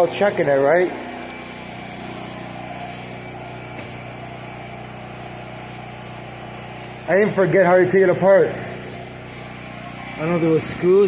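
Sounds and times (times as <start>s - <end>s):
generator engine droning: 0.0s - 11.0s.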